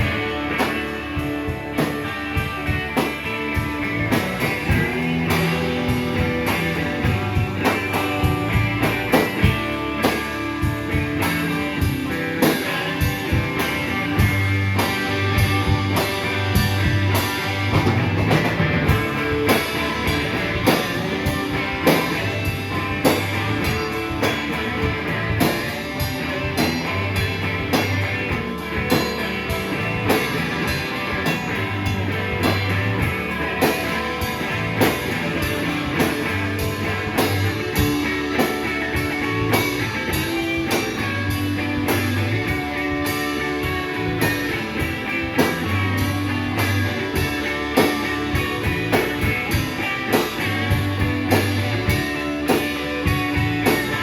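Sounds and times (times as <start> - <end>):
bass guitar: 0.0 - 54.0
drum kit beat: 0.0 - 54.0
electric guitars: 0.0 - 54.0.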